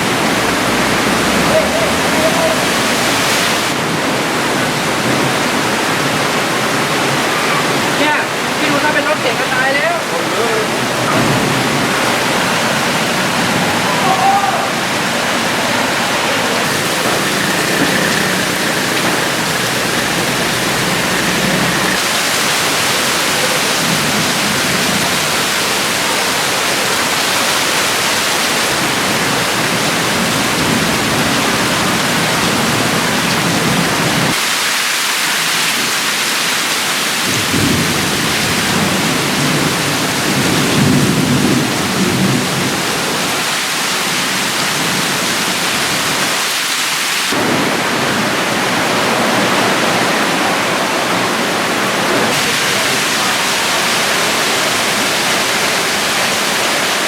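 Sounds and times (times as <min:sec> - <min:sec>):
heavy rain: 0:00.0 - 0:57.0
running water: 0:00.0 - 0:57.0.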